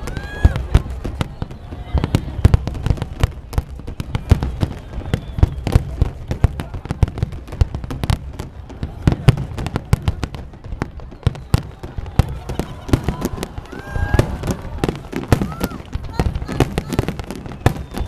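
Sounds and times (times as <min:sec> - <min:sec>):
fireworks bangs and cracks: 0:00.0 - 0:18.0.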